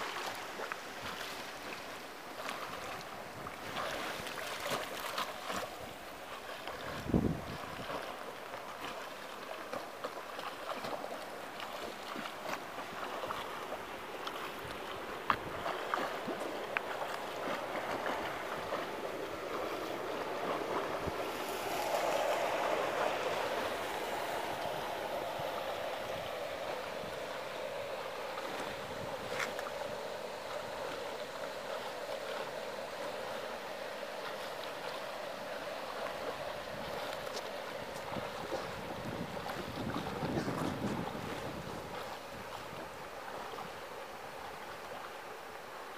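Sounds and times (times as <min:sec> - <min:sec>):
pool water splashing: 0:00.0 - 0:45.9.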